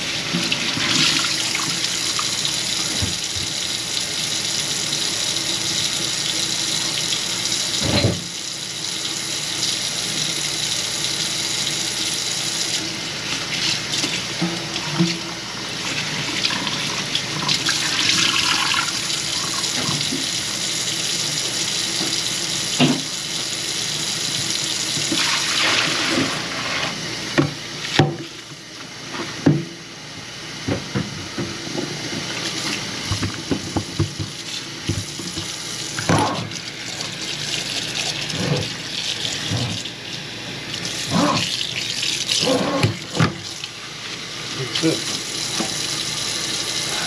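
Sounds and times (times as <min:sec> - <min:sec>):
faucet water running into sink: 0:00.0 - 0:28.5, 0:32.2 - 0:47.0.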